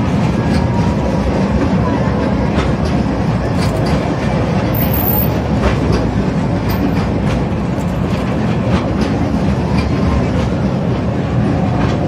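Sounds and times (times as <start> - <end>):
mini train rumbling on track: 0.0 - 12.0
wheels clacking over rail joints: 0.0 - 12.0.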